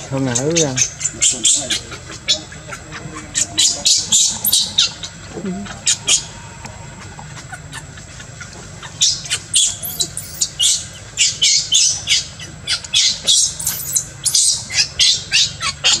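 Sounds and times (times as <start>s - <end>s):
baby monkey screaming: 0.0s - 16.0s.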